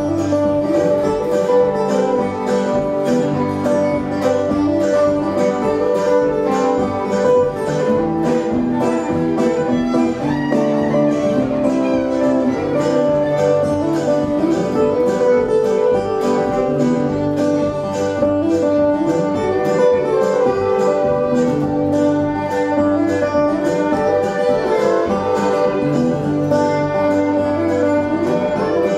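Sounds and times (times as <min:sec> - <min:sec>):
rhythmic string accompaniment: 0:00.0 - 0:28.9.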